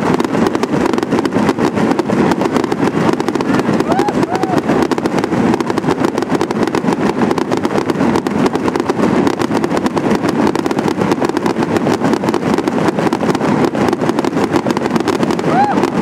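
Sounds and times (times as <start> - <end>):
firework fountains spraying sparks: 0.0 - 16.0
rapid crackling: 0.0 - 16.0.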